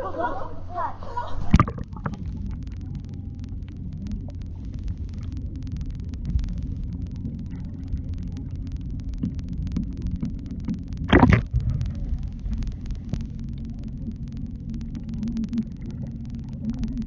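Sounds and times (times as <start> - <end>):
muffled water rumble: 0.0 - 17.0.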